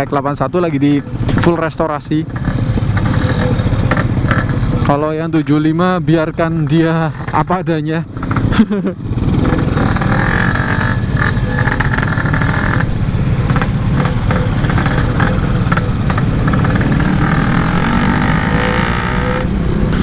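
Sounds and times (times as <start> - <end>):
two-stroke motorcycle engine running: 0.5 - 20.0.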